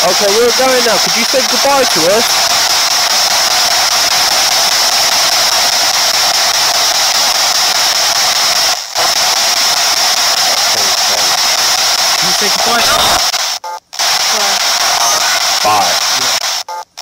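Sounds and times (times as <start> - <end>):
radio static hiss: 0.0 - 16.7.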